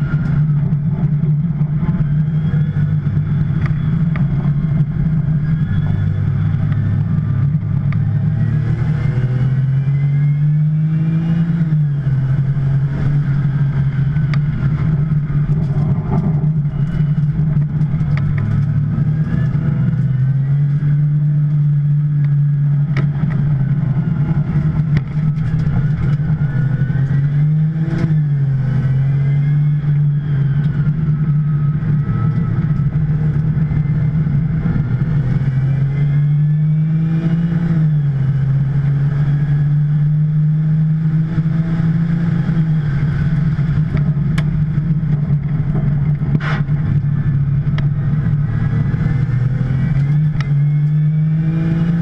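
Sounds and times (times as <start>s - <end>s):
sports car engine racing: 0.0s - 52.0s.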